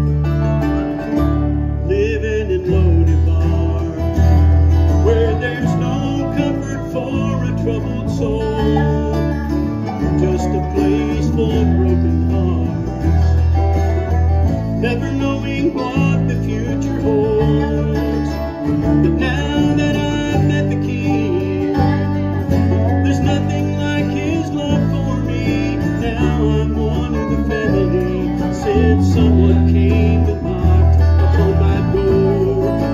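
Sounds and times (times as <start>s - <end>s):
banjo picking: 0.0s - 32.9s
electric bass line: 0.0s - 32.9s
strummed acoustic guitars: 0.0s - 32.9s.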